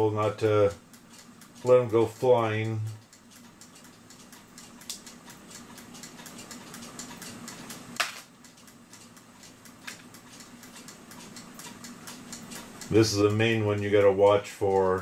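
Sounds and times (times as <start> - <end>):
faint clock ticking: 0.0 - 15.0.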